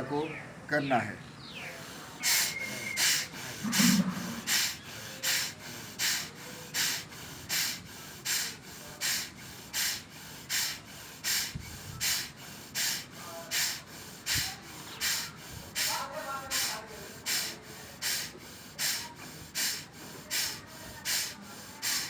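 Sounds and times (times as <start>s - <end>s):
forceful nasal exhalations: 1.6s - 22.0s.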